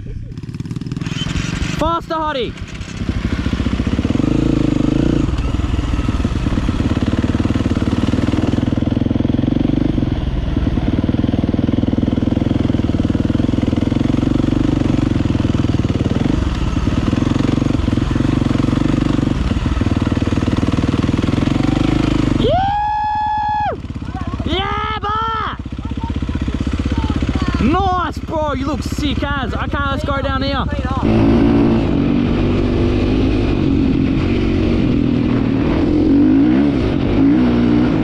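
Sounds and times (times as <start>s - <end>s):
dirt bike engine droning: 0.0s - 38.0s.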